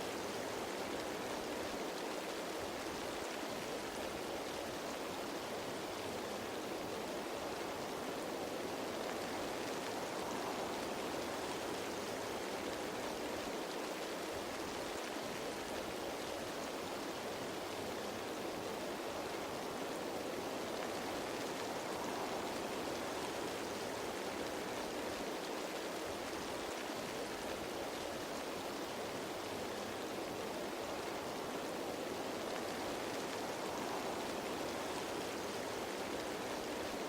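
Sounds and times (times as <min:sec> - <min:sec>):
rain falling on leaves: 0:00.0 - 0:37.0.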